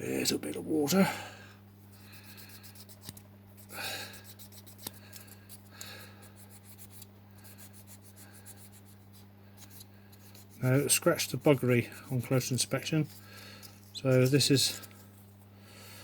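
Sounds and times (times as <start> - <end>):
low electrical hum: 0.0 - 16.0
scratchy polishing strokes: 2.0 - 15.3.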